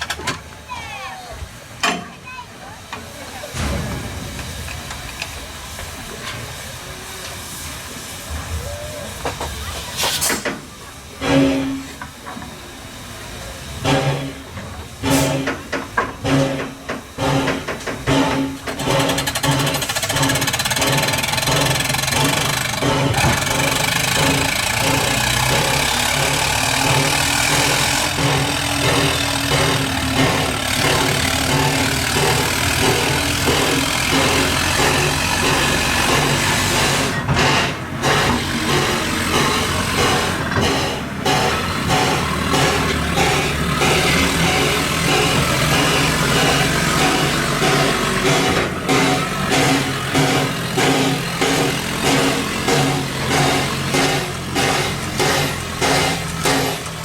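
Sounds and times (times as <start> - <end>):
steam locomotive hissing: 0.0 - 57.0
sharp blast of steam: 2.7 - 57.0.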